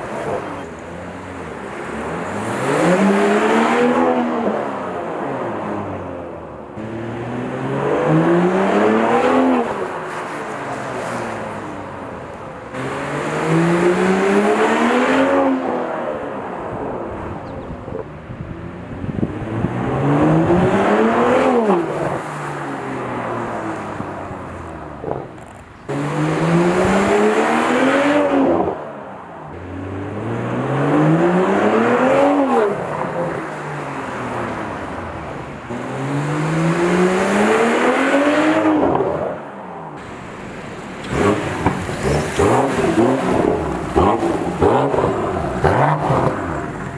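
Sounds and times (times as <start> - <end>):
car engine revving hard: 0.0 - 28.9, 29.5 - 39.3, 40.0 - 46.9.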